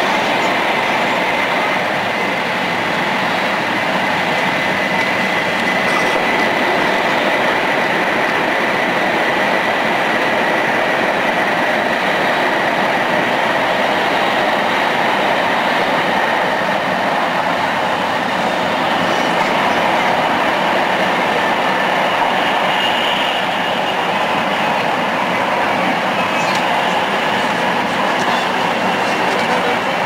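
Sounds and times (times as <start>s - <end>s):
train running at speed: 0.0s - 30.0s.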